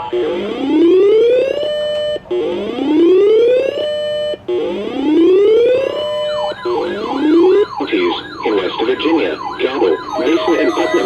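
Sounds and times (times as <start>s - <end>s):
fast wavering siren: 0.0s - 11.0s
rising whoop siren: 0.0s - 11.0s.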